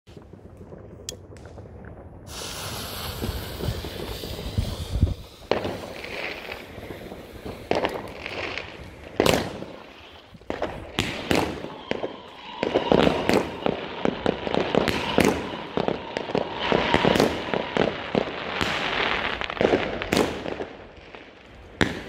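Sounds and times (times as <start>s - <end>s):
firework bangs: 0.1s - 22.0s
firework fuse hissing: 2.3s - 20.4s.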